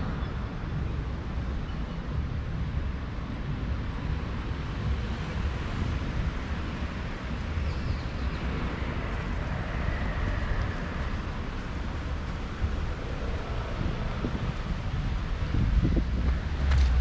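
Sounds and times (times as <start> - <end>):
deep street rumble: 0.0 - 17.0.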